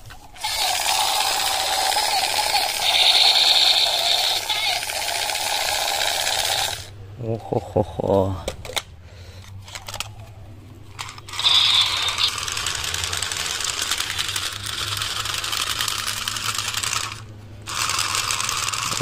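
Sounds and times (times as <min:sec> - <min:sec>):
toy gun rattling: 0:00.3 - 0:06.9, 0:09.6 - 0:10.3, 0:10.9 - 0:19.0.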